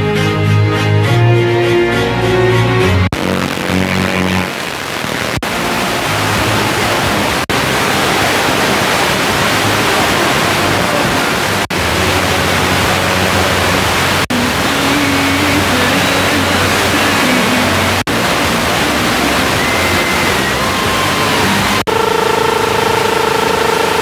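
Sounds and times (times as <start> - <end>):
radio static hiss: 3.1 - 24.0.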